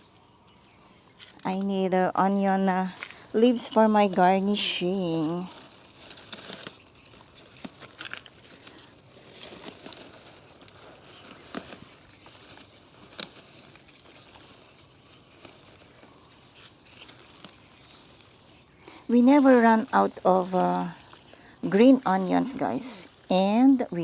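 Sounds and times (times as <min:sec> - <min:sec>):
plants rustling and crinkling: 0:00.0 - 0:24.0.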